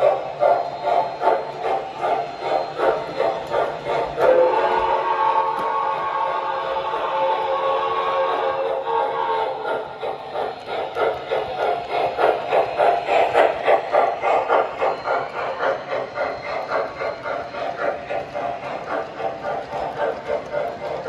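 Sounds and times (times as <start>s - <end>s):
model train steam chuffing: 0.0s - 21.0s.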